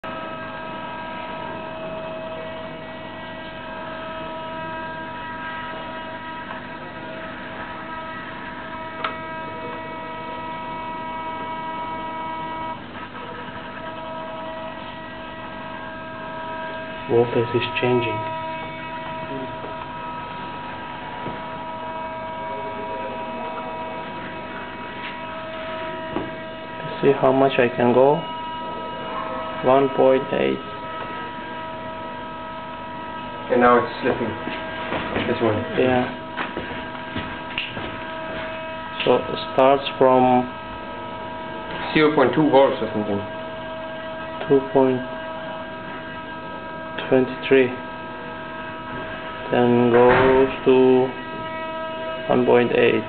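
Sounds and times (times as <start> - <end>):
electric motors whining: 0.0 - 53.0
high pure tones: 0.0 - 53.0
low hum: 0.0 - 53.0.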